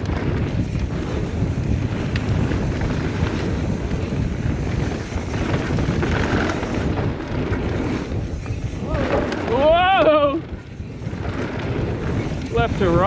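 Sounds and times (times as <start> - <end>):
bike knocking and rattling: 0.0 - 13.0
bike tyres rolling on dirt: 0.0 - 13.0
wind buffeting microphone: 0.0 - 13.0.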